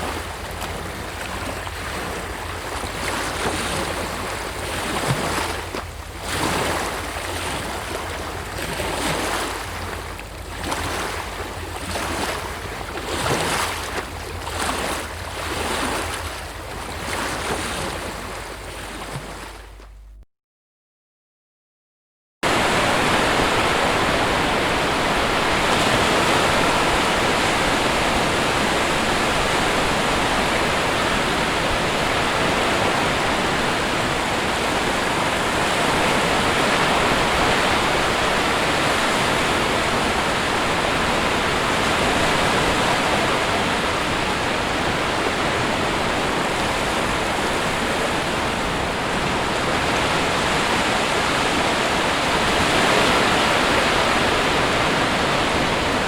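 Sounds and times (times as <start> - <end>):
waves breaking: 0.0 - 20.2, 22.4 - 56.0.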